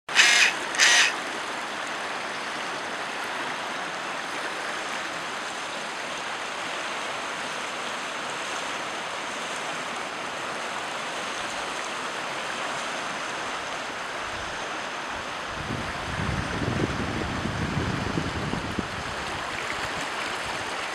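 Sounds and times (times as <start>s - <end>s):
rushing river water: 0.1s - 20.9s.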